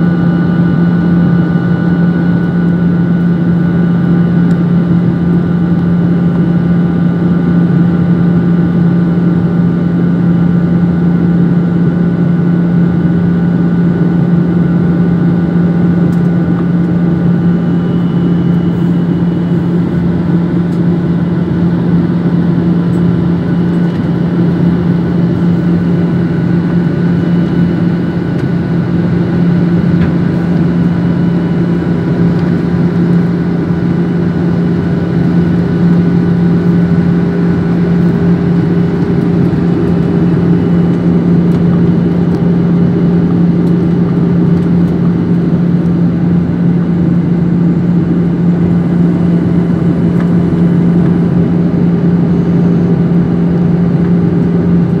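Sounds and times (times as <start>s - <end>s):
faint steady whines: 0.0s - 55.0s
jet engine cabin hum: 0.0s - 55.0s.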